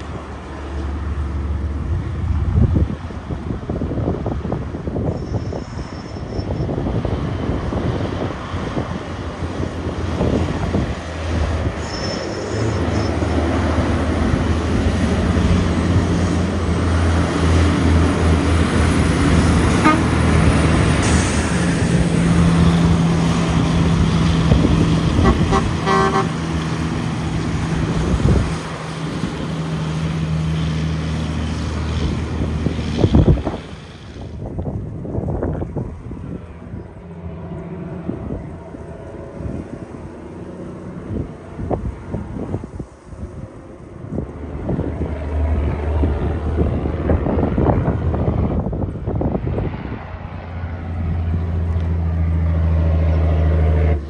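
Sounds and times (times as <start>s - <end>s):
diesel truck engine labouring: 0.0s - 54.0s.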